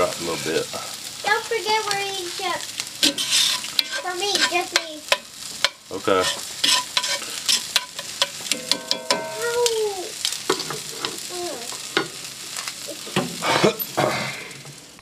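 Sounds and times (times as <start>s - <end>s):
vegetables sizzling in skillet: 0.0s - 15.0s.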